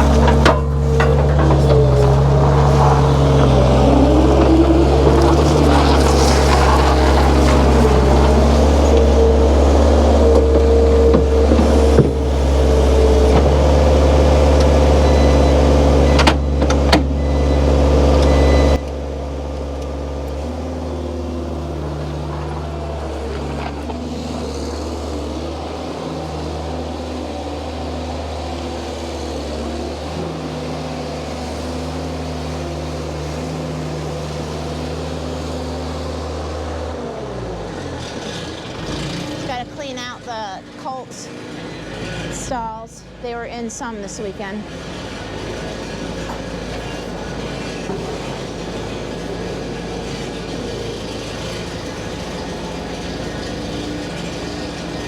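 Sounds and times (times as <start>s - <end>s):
skid steer engine running: 0.0s - 55.0s.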